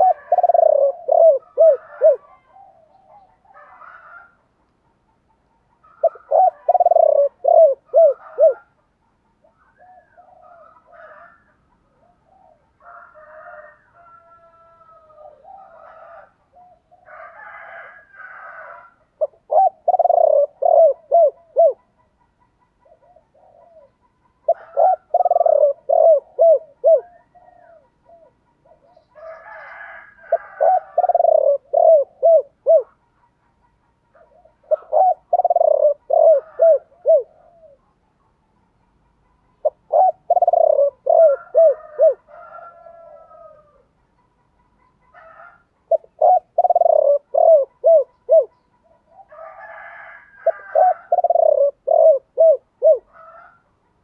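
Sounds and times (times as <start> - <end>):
dove cooing: 0.0 - 4.4, 5.8 - 33.3, 34.0 - 38.1, 39.3 - 43.9, 44.8 - 53.7
soft scattered bird calls: 0.0 - 54.0.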